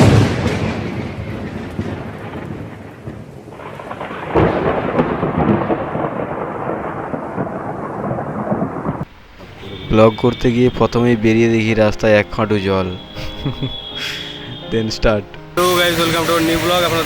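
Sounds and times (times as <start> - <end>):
thunder clap rolling: 0.0 - 14.5
heavy rain: 0.0 - 14.7, 15.5 - 17.0.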